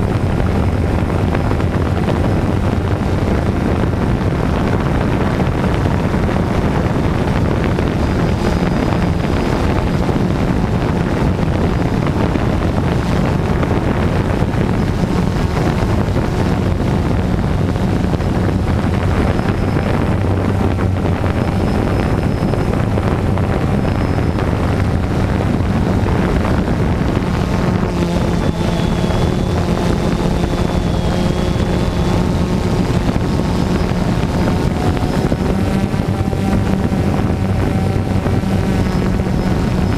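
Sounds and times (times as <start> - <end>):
drone propellers humming: 0.0 - 39.9
wind buffeting microphone: 0.0 - 39.9.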